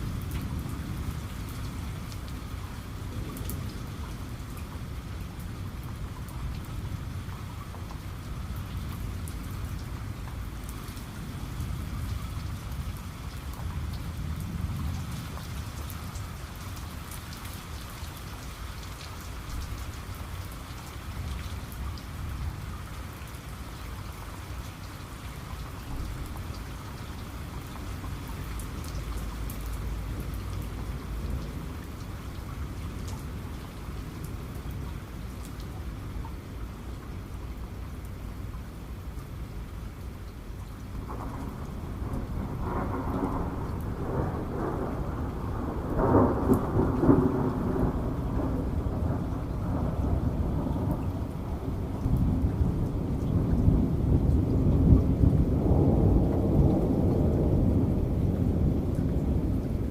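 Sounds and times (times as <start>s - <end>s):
heavy rain: 0.0s - 59.9s
raindrops ticking on a surface: 0.0s - 59.9s.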